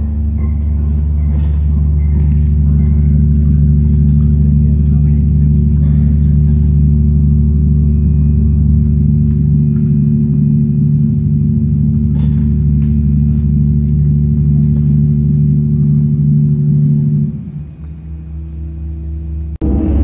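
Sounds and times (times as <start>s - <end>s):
deep gong-like drone: 0.0s - 20.0s.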